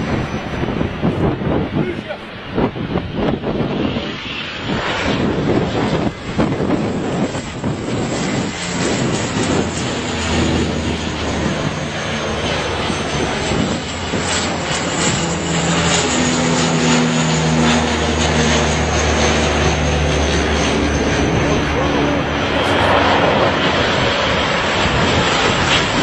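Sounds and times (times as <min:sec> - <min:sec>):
propeller plane flying overhead: 0:00.0 - 0:26.0.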